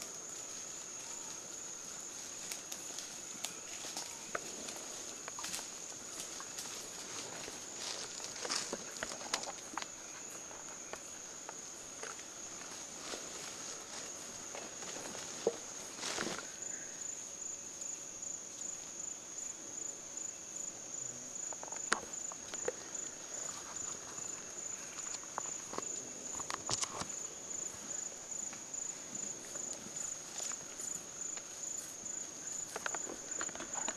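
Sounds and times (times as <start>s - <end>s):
high pulsing insect call: 0.0s - 33.9s
chimpanzees moving over dry leaves: 0.1s - 16.8s, 22.3s - 33.9s.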